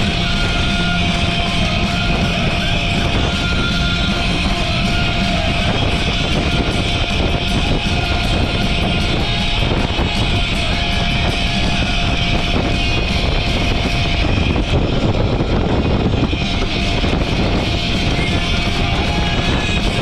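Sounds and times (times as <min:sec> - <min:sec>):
background music: 0:00.0 - 0:20.0
loud boat engine noise: 0:00.0 - 0:20.0.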